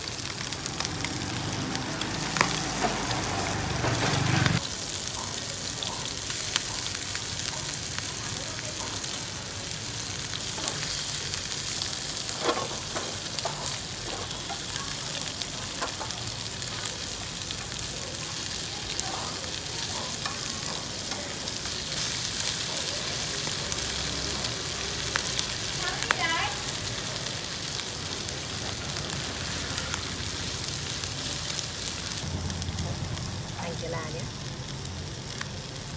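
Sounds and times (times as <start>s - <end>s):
fish sizzling in hot oil: 0.0s - 35.9s.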